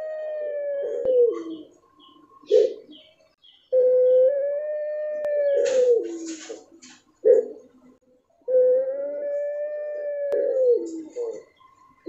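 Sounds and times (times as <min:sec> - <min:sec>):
dove long drawn-out coo: 0:00.0 - 0:03.0, 0:03.7 - 0:07.7, 0:08.4 - 0:11.6.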